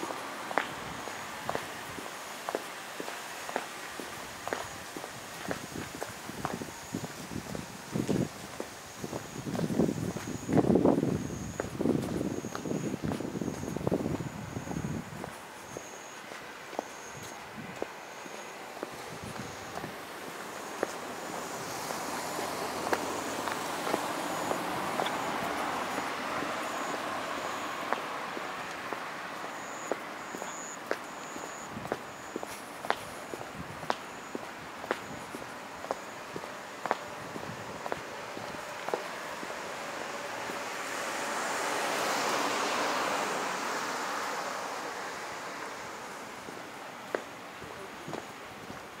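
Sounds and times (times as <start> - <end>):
car passing: 0.0 - 6.3, 6.9 - 49.0
footsteps on pavement: 0.0 - 41.4, 45.6 - 49.0.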